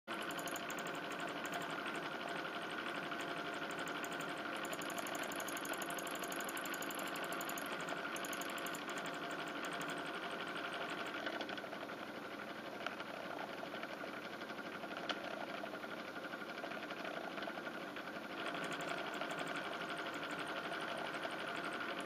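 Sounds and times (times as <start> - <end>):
air conditioner mechanical buzz: 0.1 - 22.0.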